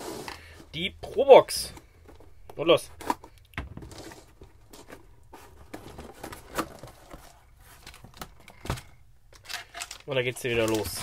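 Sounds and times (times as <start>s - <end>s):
plastic packaging rustling: 2.0s - 11.0s.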